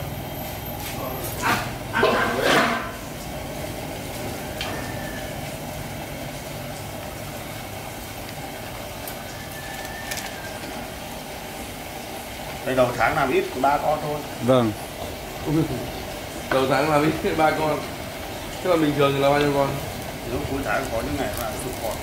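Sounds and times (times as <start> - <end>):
water boiling in a pot: 0.0 - 22.0.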